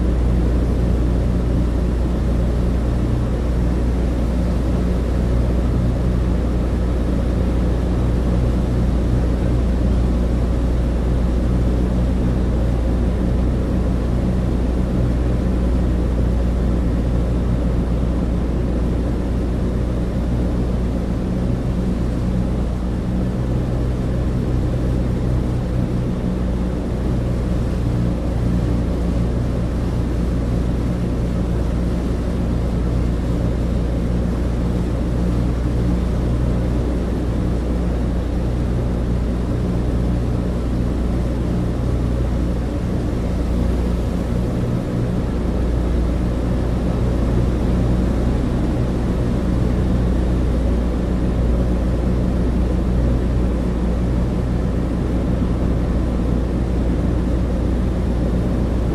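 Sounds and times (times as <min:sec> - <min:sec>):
airplane piston engines droning: 0:00.0 - 0:58.9.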